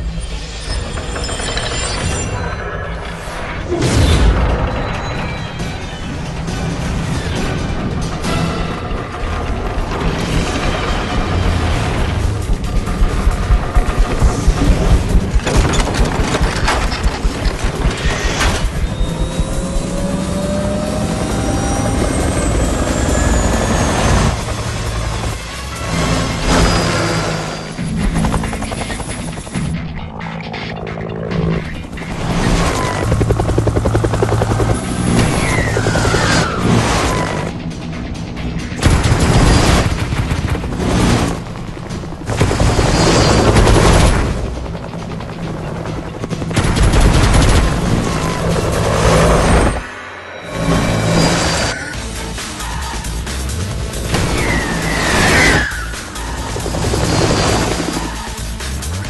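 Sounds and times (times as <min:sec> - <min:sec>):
helicopter turbine and rotor: 0:00.0 - 0:03.8, 0:04.4 - 0:59.0
music: 0:00.0 - 0:59.0.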